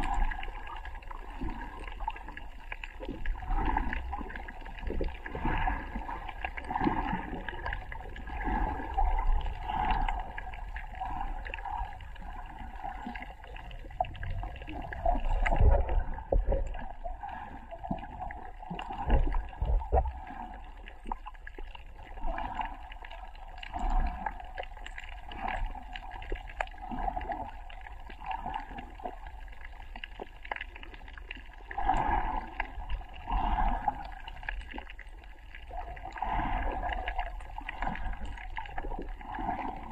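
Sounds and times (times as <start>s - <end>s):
water gurgling underwater: 0.0s - 39.9s.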